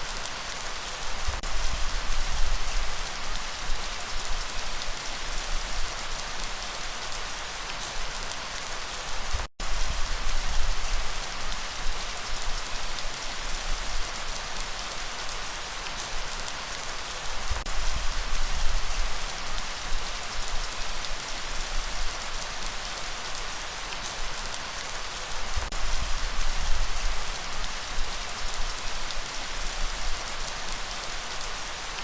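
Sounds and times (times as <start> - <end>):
steady rain hissing: 0.0 - 32.0.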